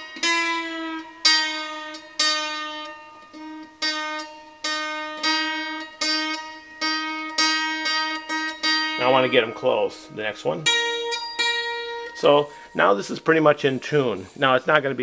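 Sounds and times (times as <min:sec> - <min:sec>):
dulcimer strings plucked: 0:00.0 - 0:14.2.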